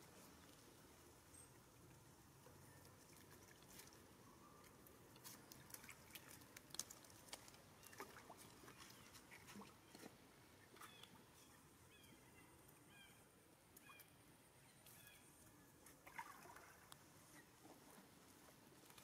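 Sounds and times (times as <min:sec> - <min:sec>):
light water splashes: 0:00.0 - 0:19.0.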